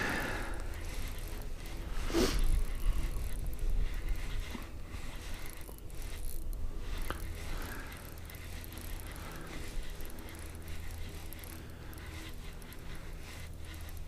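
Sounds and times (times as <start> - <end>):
fishing reel whirring and clicking: 0.0 - 14.0.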